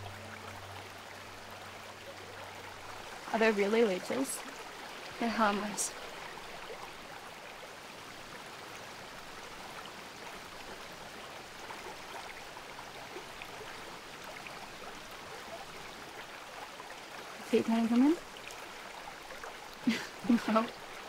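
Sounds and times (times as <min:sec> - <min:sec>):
creek water flowing: 0:00.0 - 0:21.0
water drips and splashes: 0:00.0 - 0:21.0.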